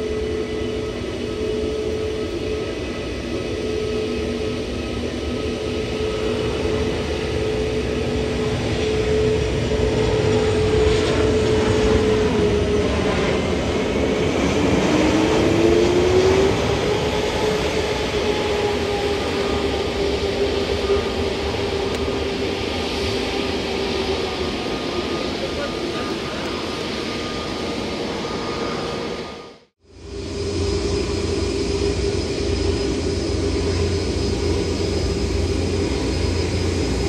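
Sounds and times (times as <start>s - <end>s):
jet engines whining: 0.0s - 37.0s.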